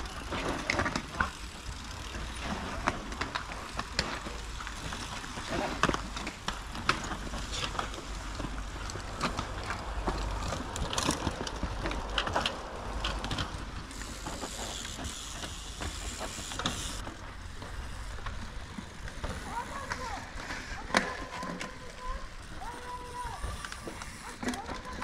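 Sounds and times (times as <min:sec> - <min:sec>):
bike drivetrain clicks and rattles: 0:00.0 - 0:25.0.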